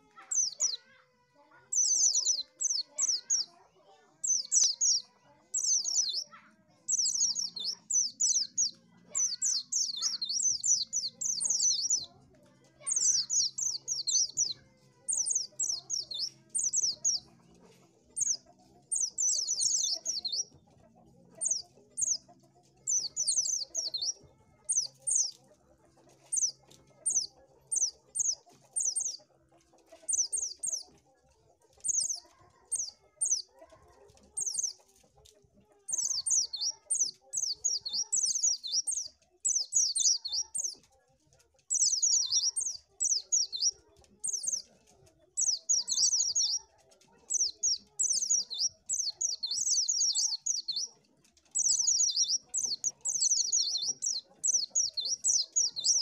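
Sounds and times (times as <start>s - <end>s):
high thin bird chirping: 0.3s - 0.8s, 1.7s - 3.5s, 4.2s - 12.1s, 12.8s - 17.3s, 18.1s - 20.5s, 21.4s - 25.4s, 26.2s - 29.2s, 30.0s - 30.9s, 31.8s - 33.5s, 34.4s - 34.8s, 35.9s - 40.8s, 41.7s - 44.8s, 45.4s - 46.6s, 47.2s - 56.0s.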